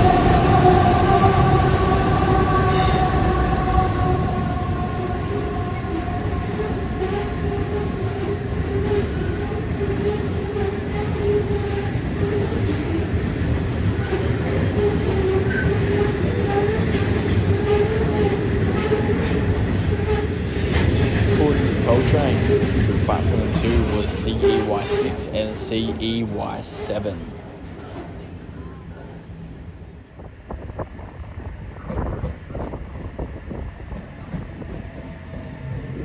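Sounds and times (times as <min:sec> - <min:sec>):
high train tones: 0:00.0 - 0:36.0
train wheels rumbling on rail: 0:00.0 - 0:36.0.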